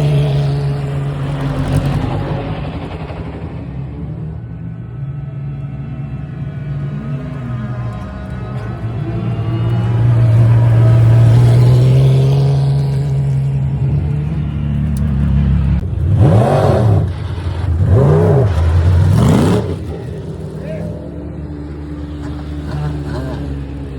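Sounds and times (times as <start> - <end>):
race car engine revving: 0.0 - 23.9.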